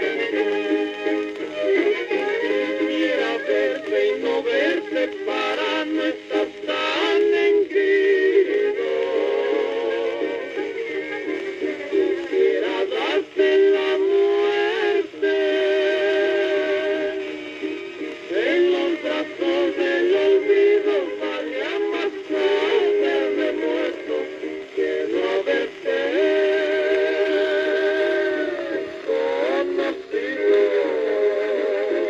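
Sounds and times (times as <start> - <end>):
mariachi song from record player: 0.0 - 32.0.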